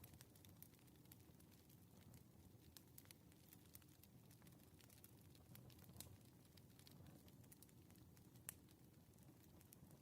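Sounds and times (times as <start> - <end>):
low rumble of flame: 0.0 - 10.0
wood fire crackling: 0.0 - 10.0.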